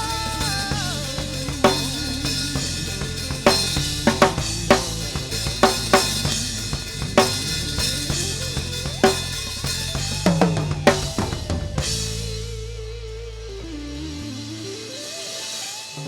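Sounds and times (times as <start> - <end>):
bass notes: 0.0 - 15.0
drum kit playing: 0.0 - 16.0.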